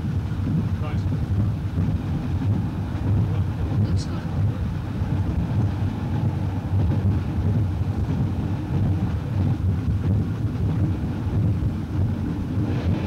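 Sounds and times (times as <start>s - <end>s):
train rumbling at speed: 0.0s - 13.0s
wind noise: 0.0s - 13.0s.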